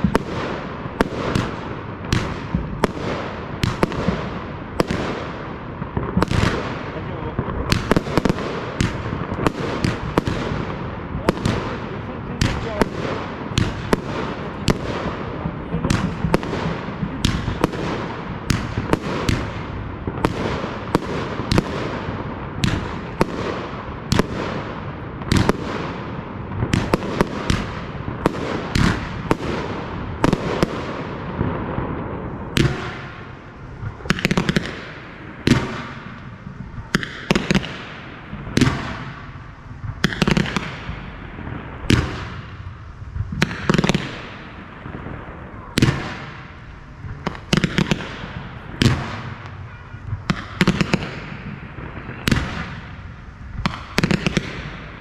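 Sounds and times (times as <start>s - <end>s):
fireworks bangs with echo: 0.0s - 55.0s.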